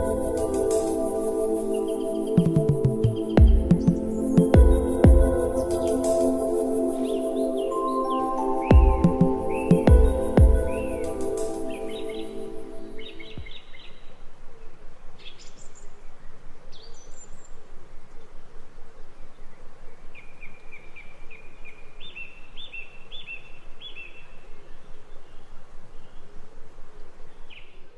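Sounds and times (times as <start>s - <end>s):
steady background hiss: 0.0s - 27.9s.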